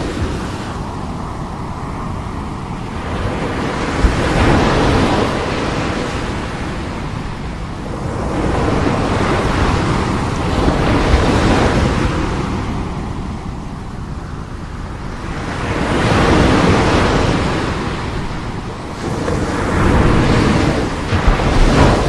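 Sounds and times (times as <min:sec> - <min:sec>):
sea waves breaking: 0:00.0 - 0:22.0
wind buffeting microphone: 0:00.0 - 0:22.0.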